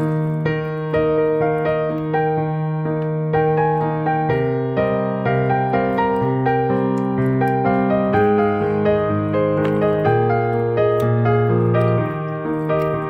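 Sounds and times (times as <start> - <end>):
keyboard melody: 0.0 - 13.0.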